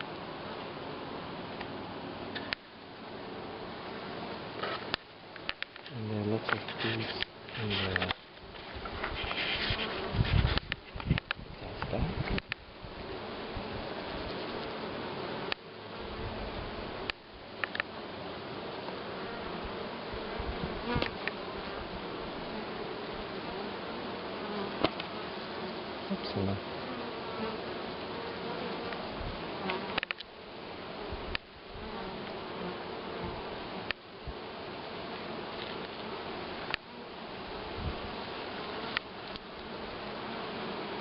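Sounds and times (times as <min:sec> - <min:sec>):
honeybees buzzing: 0:00.0 - 0:41.0.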